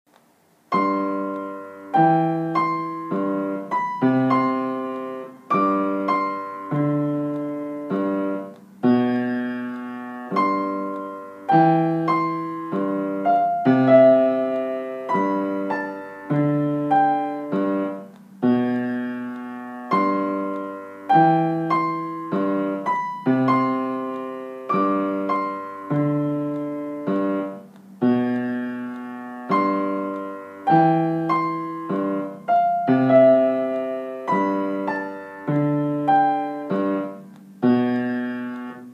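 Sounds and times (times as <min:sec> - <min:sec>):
piano duet: 0:00.6 - 0:38.9.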